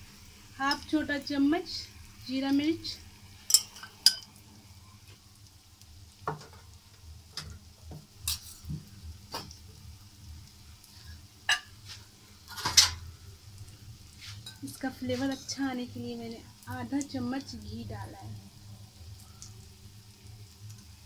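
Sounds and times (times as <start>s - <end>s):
faint sizzle: 0.0s - 21.0s.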